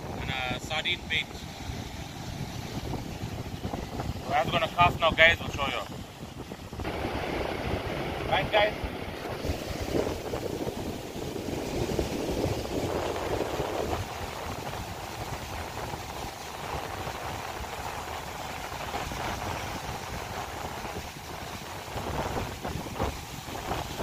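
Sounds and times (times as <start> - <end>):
surf breaking on rocky shore: 0.0 - 24.0.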